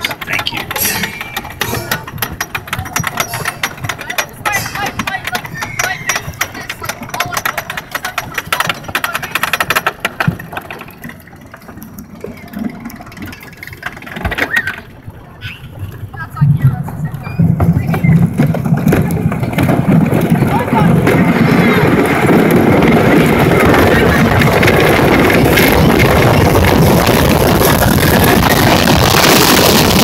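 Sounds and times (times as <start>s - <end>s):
roller coaster lift clicking: 0.0s - 30.0s.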